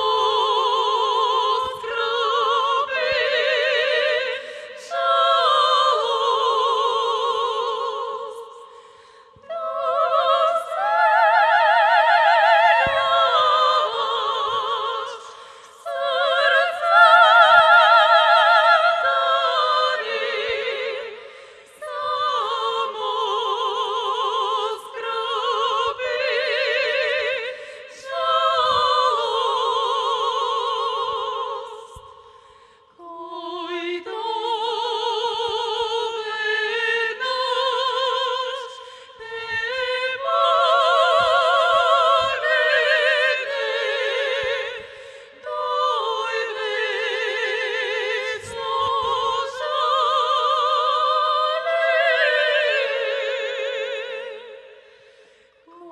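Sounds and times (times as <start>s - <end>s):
women singing operatic harmony: 0.0s - 55.9s.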